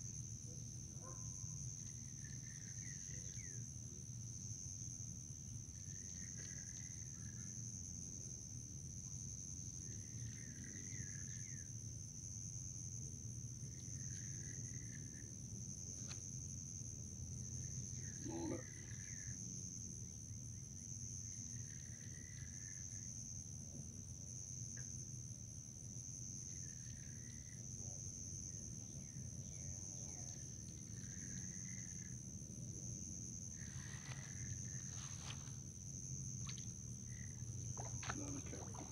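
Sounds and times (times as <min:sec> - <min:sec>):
high insect chorus: 0:00.0 - 0:38.9.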